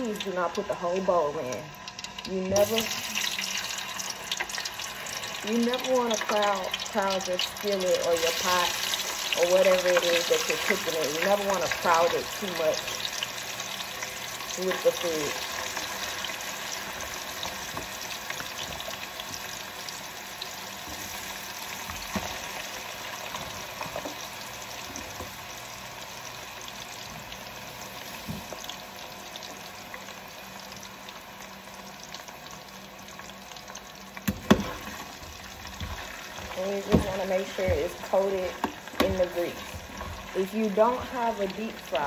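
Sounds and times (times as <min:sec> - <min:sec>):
fries sizzling in oil: 0:00.0 - 0:42.0.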